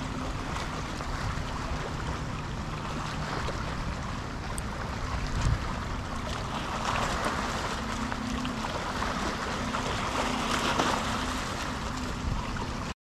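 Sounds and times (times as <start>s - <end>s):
faint steady hum: 0.0s - 12.9s
small waves lapping and splashing: 0.0s - 12.9s
wind rumbling on microphone: 0.0s - 12.9s.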